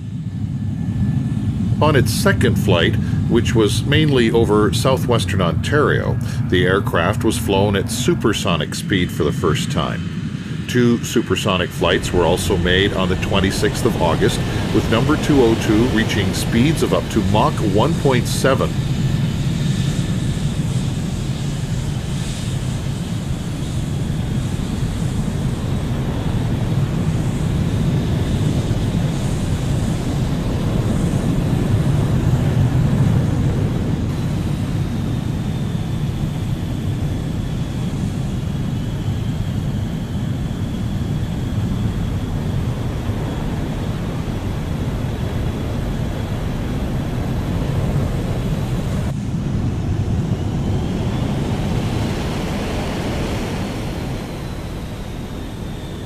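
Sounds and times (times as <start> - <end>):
jet engines roaring: 0.0 - 56.0
thin turbine whine: 0.0 - 56.0.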